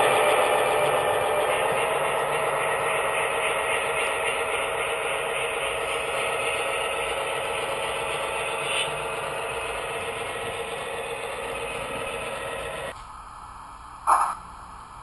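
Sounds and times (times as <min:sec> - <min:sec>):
model train wheels rattling on rail: 0:00.0 - 0:13.0.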